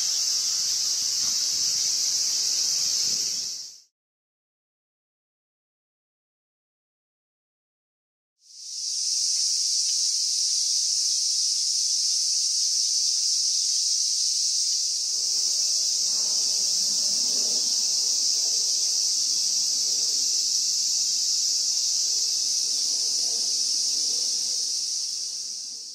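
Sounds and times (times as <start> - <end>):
cicadas buzzing: 0.0 - 3.9, 8.4 - 25.9.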